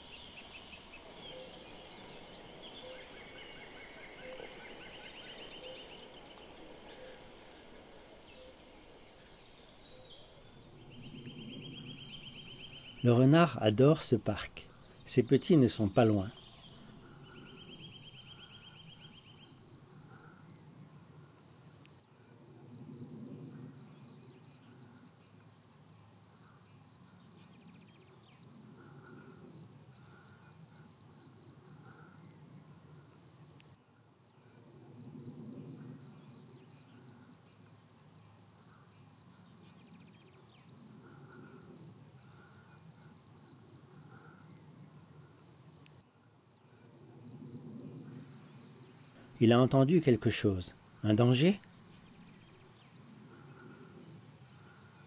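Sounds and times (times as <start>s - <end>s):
finer insect trill: 0.0s - 55.0s
cricket trilling: 8.3s - 55.0s.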